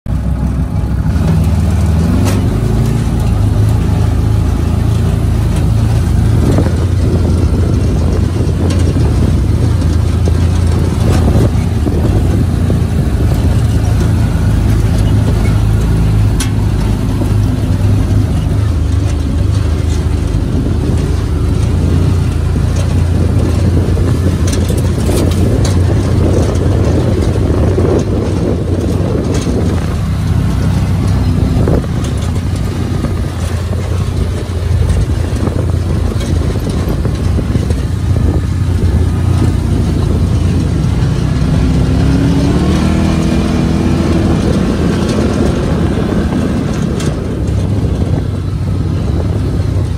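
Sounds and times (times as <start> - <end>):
chassis rattles and knocks: 0.1 - 49.9
off-road vehicle engine droning: 0.1 - 49.9.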